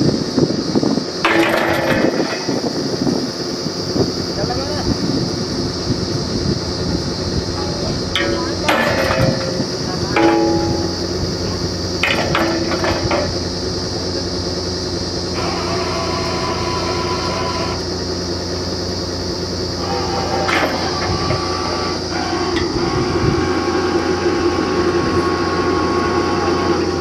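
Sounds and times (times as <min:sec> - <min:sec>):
drilling rig engine running: 0:00.0 - 0:27.0.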